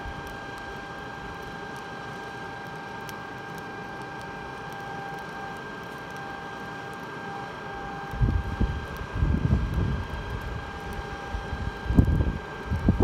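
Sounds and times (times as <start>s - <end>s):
air rushing through fire: 0.0s - 13.0s
blower fan whine: 0.0s - 13.0s.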